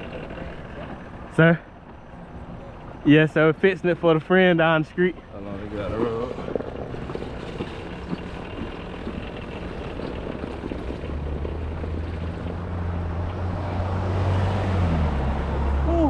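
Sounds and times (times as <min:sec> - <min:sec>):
road noise: 0:00.0 - 0:16.0
vehicle engine hum: 0:00.0 - 0:16.0.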